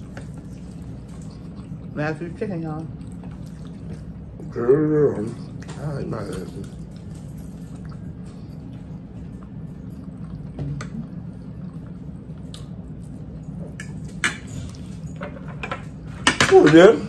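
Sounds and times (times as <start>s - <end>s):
people chewing: 0.0s - 16.3s
low steady hum: 0.0s - 17.0s.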